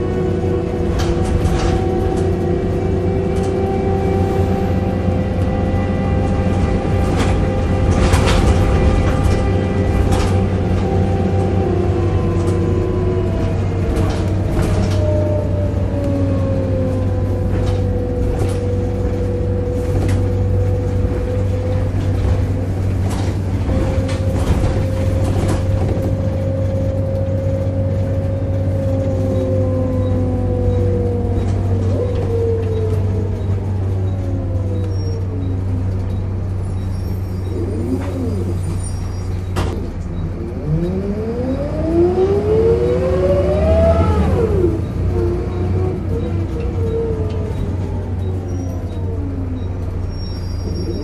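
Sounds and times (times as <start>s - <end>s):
bus engine whine and hum: 0.0s - 51.0s.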